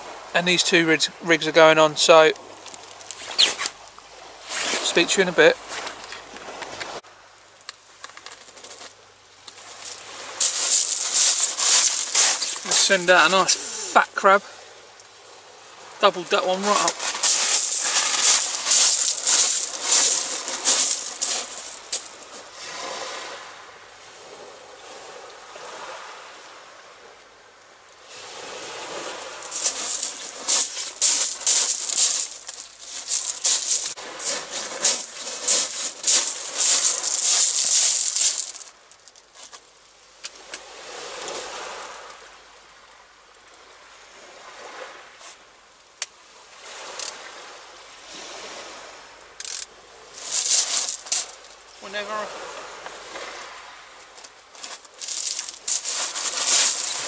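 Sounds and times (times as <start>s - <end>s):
surf washing on shore: 0.0s - 7.0s, 9.5s - 27.2s, 28.0s - 39.6s, 40.3s - 42.4s, 43.8s - 45.2s, 46.3s - 57.0s.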